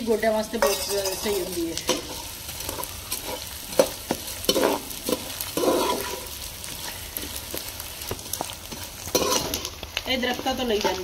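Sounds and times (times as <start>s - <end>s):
gum frying in ghee sizzling: 0.0s - 11.0s
spoon knocking and scraping pan: 0.6s - 6.3s, 7.4s - 11.0s.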